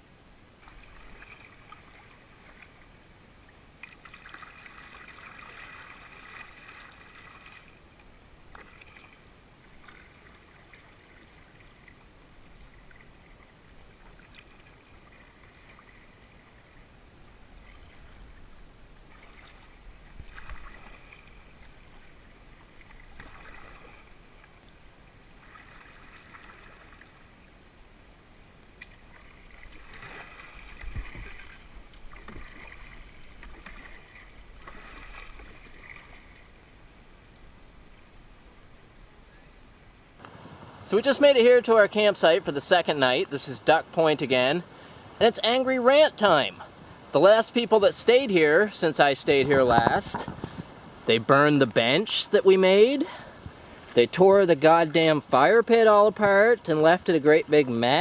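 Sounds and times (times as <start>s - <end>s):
paddle splashing water: 0.5s - 58.0s.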